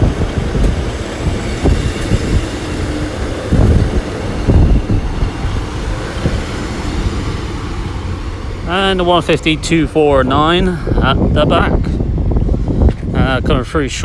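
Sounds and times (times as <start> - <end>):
train diesel engines: 0.0 - 14.0
wheels rumbling on rail: 0.0 - 14.0.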